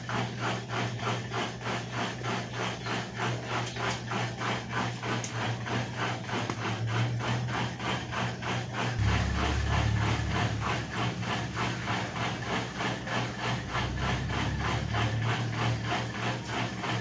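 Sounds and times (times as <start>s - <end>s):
rhythmic rasping rub: 0.0s - 17.0s
washing machine motor humming: 0.0s - 17.0s.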